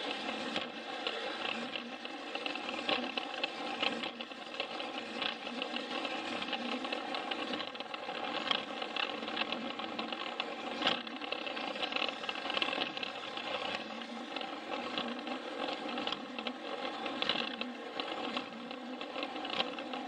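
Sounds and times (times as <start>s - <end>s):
toy train motor whirring: 0.0s - 20.0s
wheels clicking on plastic track: 0.0s - 20.0s.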